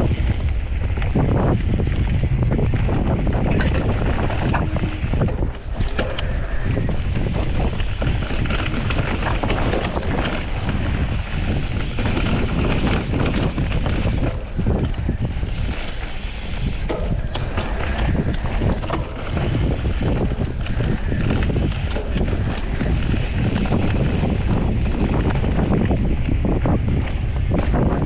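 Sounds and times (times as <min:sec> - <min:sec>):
bike clicks and rattles: 0:00.0 - 0:28.0
wind buffeting microphone: 0:00.0 - 0:28.0.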